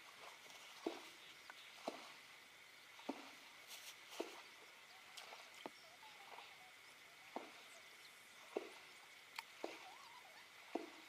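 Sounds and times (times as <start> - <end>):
faint high hum: 0.0 - 11.0
water splashing plops: 0.0 - 11.0.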